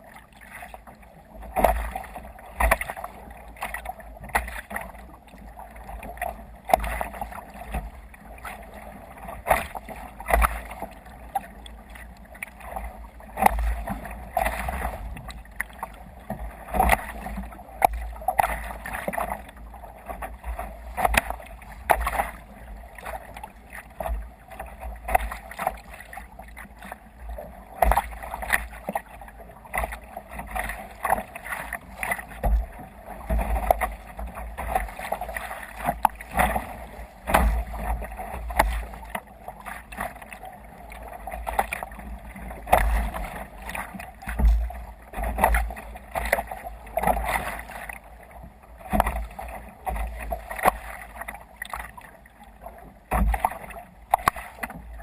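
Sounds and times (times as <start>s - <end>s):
waves splashing against kayak hull: 0.0s - 55.0s.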